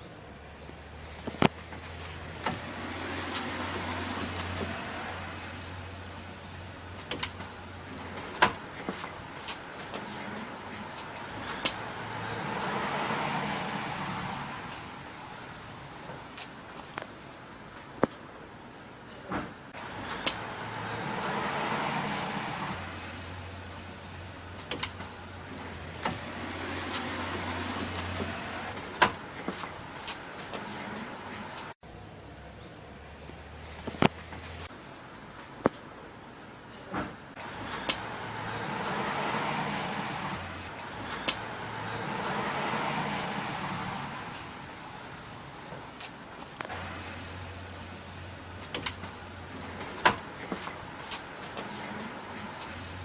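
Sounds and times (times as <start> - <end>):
vehicle passing: 0.3 - 16.4, 19.7 - 34.7, 37.3 - 53.0.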